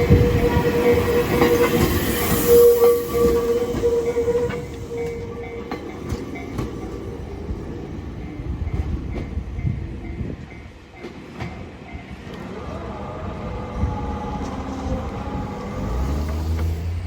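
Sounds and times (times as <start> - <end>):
train rumbling with whine: 0.0 - 17.0.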